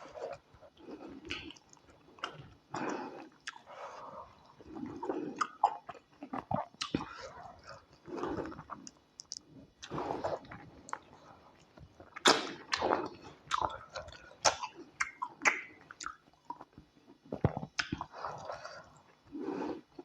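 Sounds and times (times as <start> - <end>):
wet chewing mouth sounds: 0.0 - 19.2.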